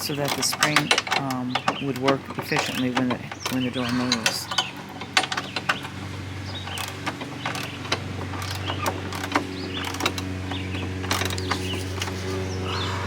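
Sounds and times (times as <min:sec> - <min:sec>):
metal clicks and knocks: 0:00.0 - 0:12.2
low mechanical hum: 0:00.0 - 0:13.0
small birds chirping: 0:00.0 - 0:13.0.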